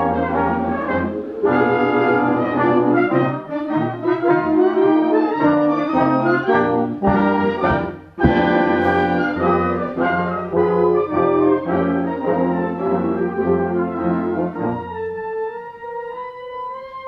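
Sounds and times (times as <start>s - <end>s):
brass ensemble playing chords: 0.0s - 17.0s.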